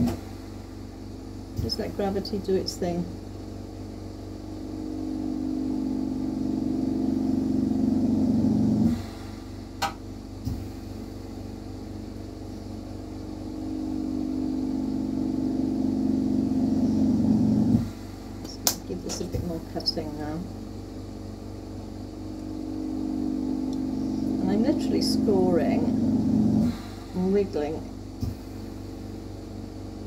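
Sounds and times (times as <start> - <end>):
steady background hum: 0.0 - 30.0
workshop machine hum: 0.0 - 30.0.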